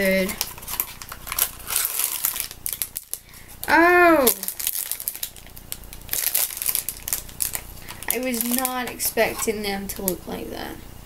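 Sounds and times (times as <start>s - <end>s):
plastic snack packet crinkling: 0.0s - 10.2s.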